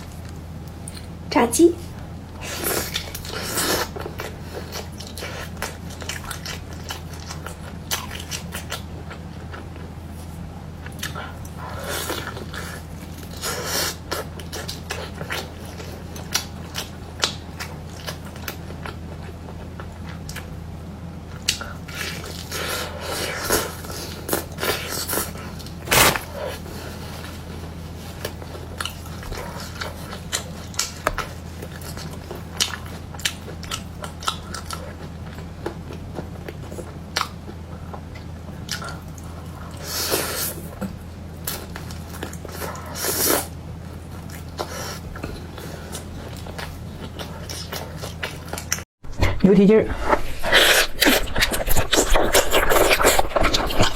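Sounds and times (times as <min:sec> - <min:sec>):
low electrical hum: 0:00.0 - 0:53.9
chewing and crunching food: 0:01.9 - 0:53.9.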